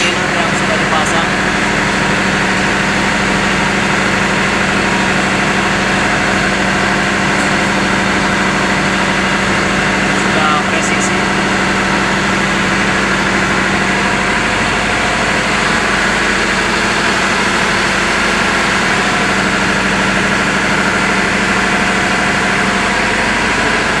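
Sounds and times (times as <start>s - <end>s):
large engine droning: 0.0s - 24.0s.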